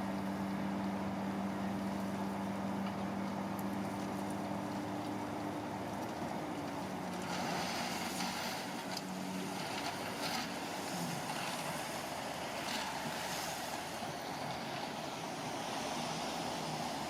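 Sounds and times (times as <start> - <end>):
construction machinery engine: 0.0 - 17.0.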